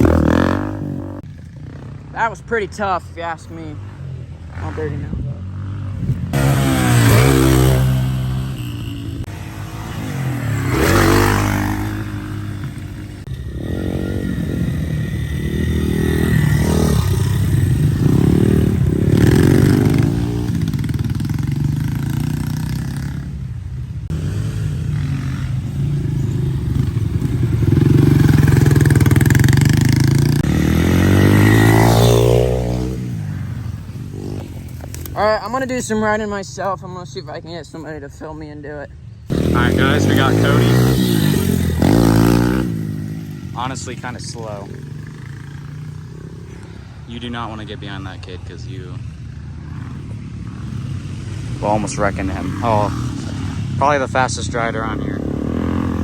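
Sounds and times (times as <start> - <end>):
dirt bikes revving past: 0.0 - 56.0.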